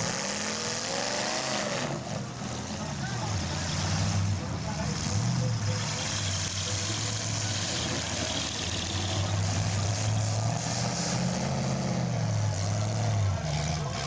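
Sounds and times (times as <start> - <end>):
car engines droning: 0.0 - 14.0.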